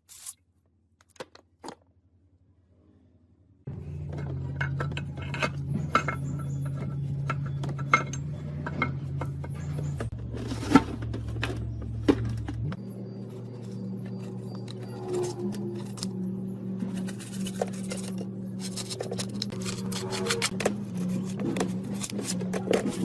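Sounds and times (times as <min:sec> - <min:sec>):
low machine hum: 0:00.6 - 0:23.0.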